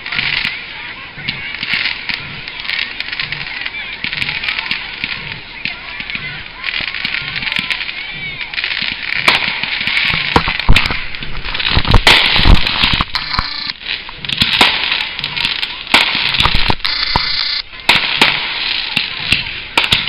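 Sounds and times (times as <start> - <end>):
crackling firework stars: 0.0 - 20.0
firework shells bursting: 1.4 - 20.0.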